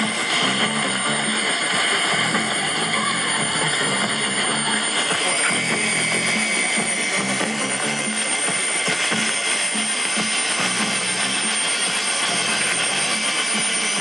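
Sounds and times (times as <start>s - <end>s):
faint radio programme audio: 0.0s - 14.0s
radio beat whistles: 0.0s - 14.0s
radio static: 0.0s - 14.0s.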